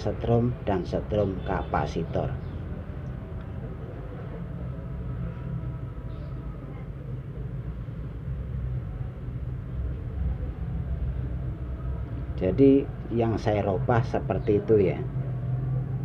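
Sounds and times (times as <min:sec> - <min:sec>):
faint hum: 0:00.0 - 0:16.0
low background rumble: 0:00.0 - 0:16.0.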